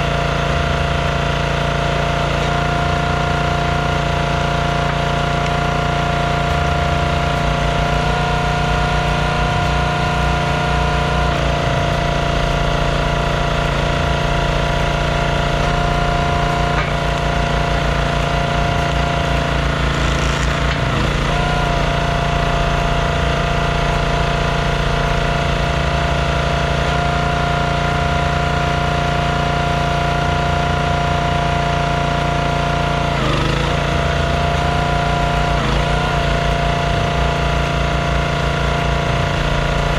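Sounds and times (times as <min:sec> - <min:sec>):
small gasoline engine running: 0:00.0 - 0:39.9
wood splitting: 0:00.0 - 0:39.9.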